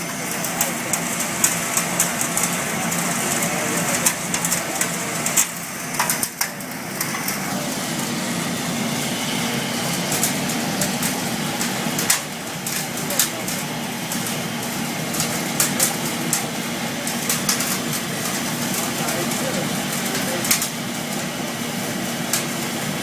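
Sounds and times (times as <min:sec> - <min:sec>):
sharp crackles and clicks: 0:00.0 - 0:08.4, 0:09.8 - 0:22.8
mechanical hum of burner: 0:00.0 - 0:23.0.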